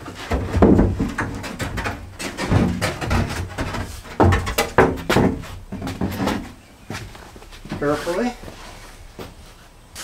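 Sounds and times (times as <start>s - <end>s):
shower base knocking and scraping: 0.0s - 8.1s.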